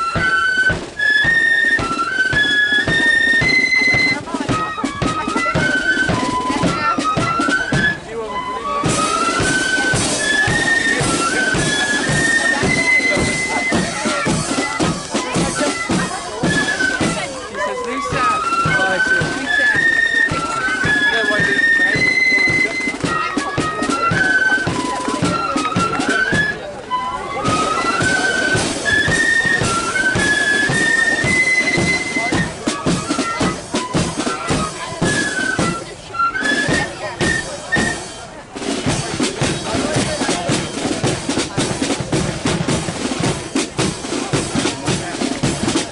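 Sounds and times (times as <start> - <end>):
flute melody: 0.0 - 45.9
steady drum beat: 0.0 - 45.9.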